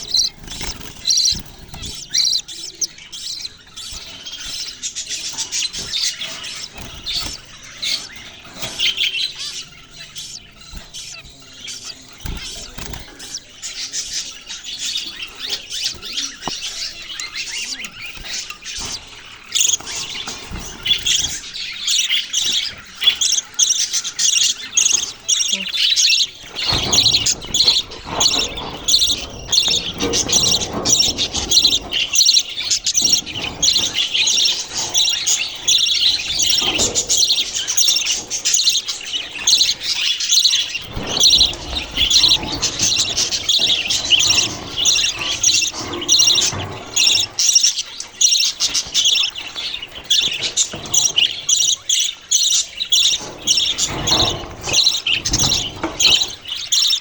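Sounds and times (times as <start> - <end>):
parrots chirping and chattering: 0.0 - 57.0.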